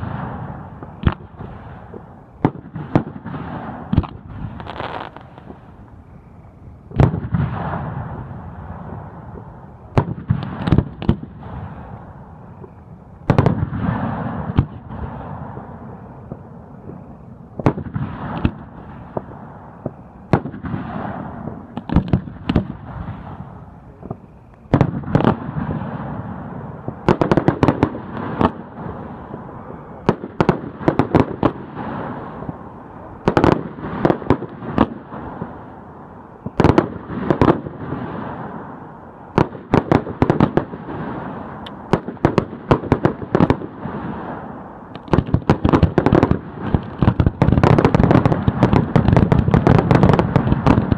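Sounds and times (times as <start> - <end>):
fireworks bangs: 0.0 - 6.2, 6.9 - 50.9.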